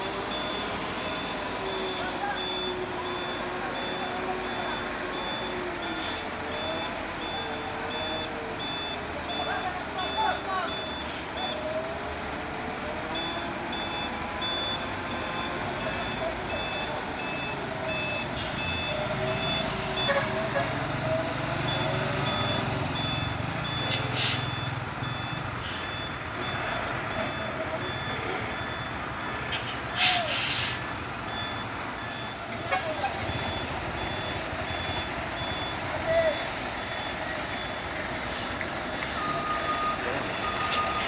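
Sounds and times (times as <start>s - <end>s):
diesel truck engine running: 0.0s - 41.0s
truck reversing alarm beeping: 0.0s - 41.0s.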